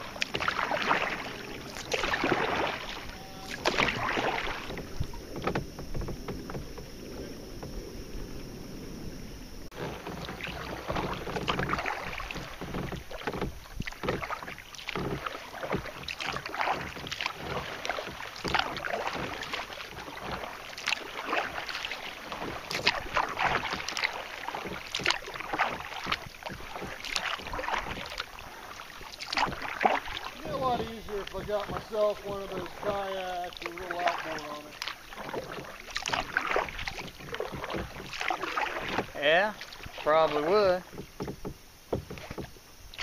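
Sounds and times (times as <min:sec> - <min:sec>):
paddle splashes and drips: 0:00.0 - 0:43.0
water washing: 0:00.0 - 0:43.0.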